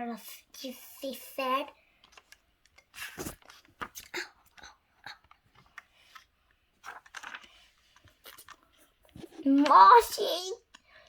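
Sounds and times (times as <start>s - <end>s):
faint clicks and crackles: 1.8s - 11.0s.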